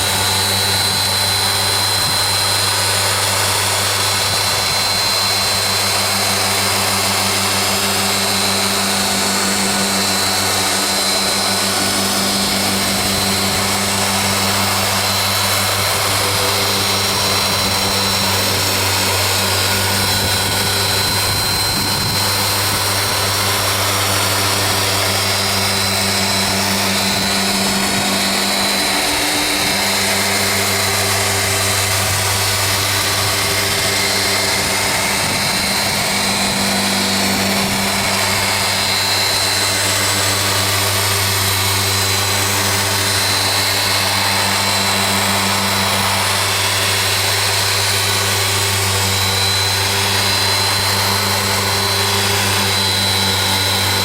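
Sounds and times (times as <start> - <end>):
polisher humming: 0.0 - 54.0.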